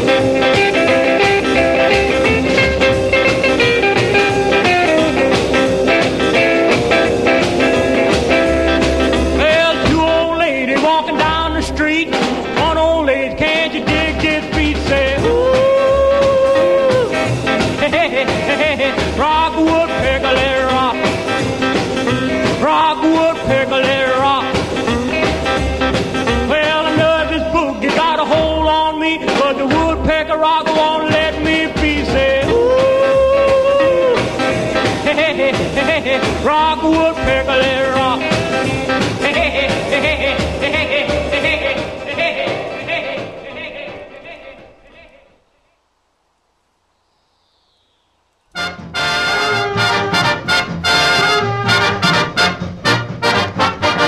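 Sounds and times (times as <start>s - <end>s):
upbeat rock and roll music: 0.0s - 44.8s, 48.6s - 54.0s.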